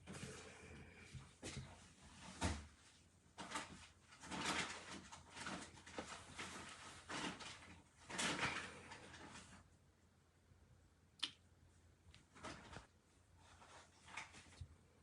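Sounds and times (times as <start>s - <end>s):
rustling handling noises: 0.0s - 9.7s, 12.2s - 14.8s.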